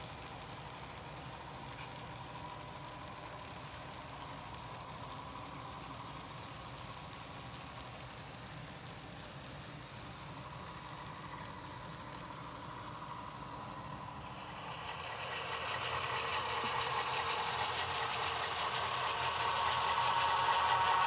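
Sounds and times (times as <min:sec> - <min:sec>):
model diesel locomotive running: 0:00.0 - 0:21.0
model train cars rolling: 0:00.0 - 0:21.0.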